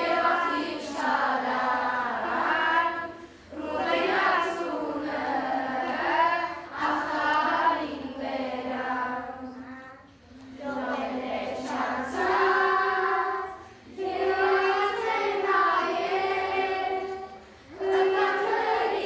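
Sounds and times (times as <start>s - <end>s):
children singing together: 0.0s - 19.0s.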